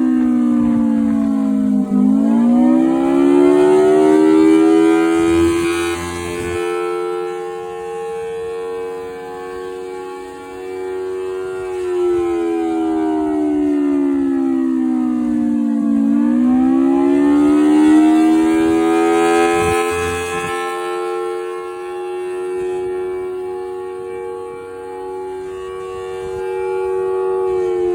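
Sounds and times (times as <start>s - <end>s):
civil defense siren wailing: 0.0s - 27.9s.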